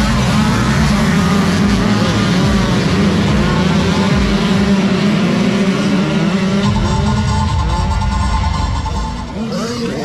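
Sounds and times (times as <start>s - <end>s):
motocross bike engines revving: 0.0s - 10.0s.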